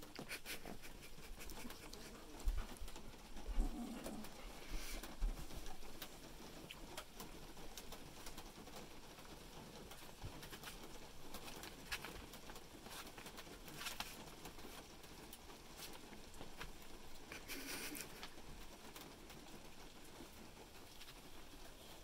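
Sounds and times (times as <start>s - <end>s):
puppies rustling and scratching: 0.0s - 22.0s.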